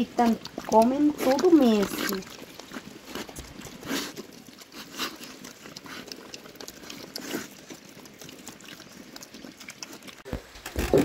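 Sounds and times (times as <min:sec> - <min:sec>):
pigs chewing and smacking: 0:00.0 - 0:11.0.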